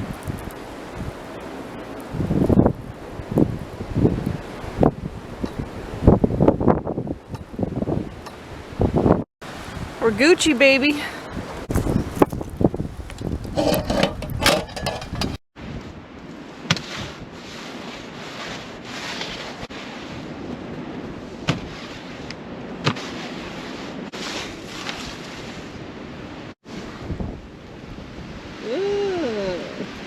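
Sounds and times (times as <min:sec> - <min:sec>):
strong storm wind: 0:00.0 - 0:30.0.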